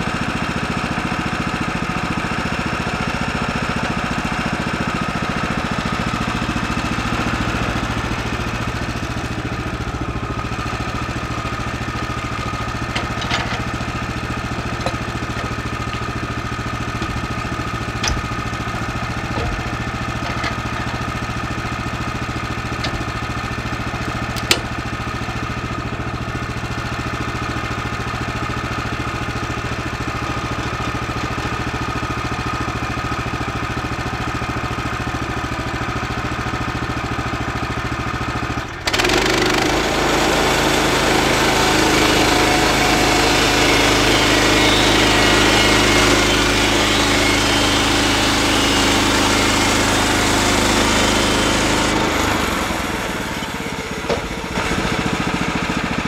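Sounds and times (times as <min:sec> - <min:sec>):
bandsaw mill engine running: 0:00.0 - 0:56.0.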